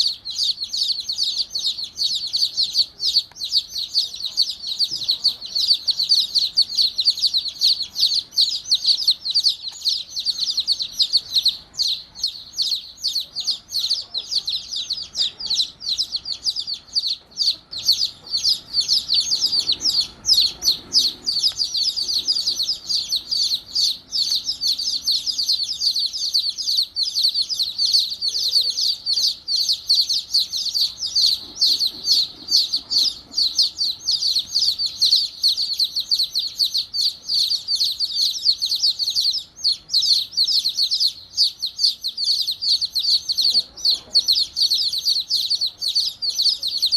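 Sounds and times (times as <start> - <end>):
baby chicks peeping: 0.0 - 46.9.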